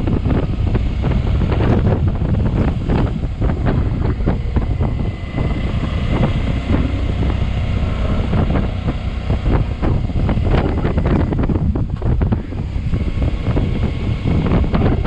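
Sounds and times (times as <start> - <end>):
motorcycle engine: 0.0 - 15.0
road noise: 0.0 - 15.0
wind buffeting microphone: 0.0 - 15.0.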